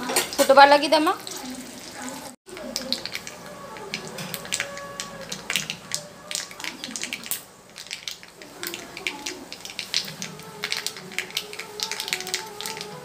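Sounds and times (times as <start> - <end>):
spices spluttering in hot oil: 0.0 - 13.0.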